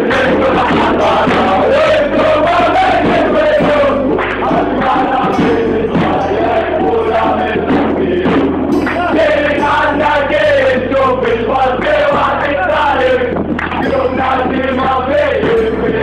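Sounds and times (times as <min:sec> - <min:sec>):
crowd of men chanting: 0:00.0 - 0:16.0.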